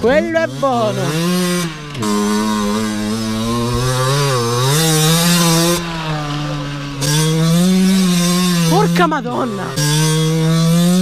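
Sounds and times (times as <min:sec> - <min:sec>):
two-stroke dirt bike engine revving: 0:00.0 - 0:11.0.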